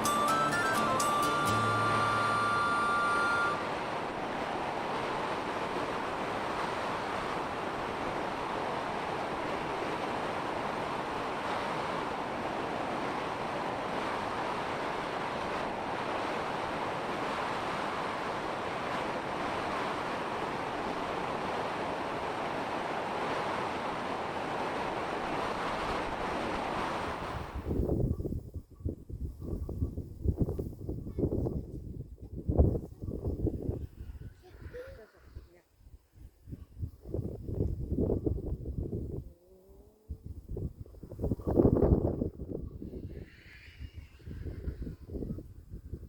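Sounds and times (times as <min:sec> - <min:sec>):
wind blowing over microphone: 0:01.6 - 0:46.0.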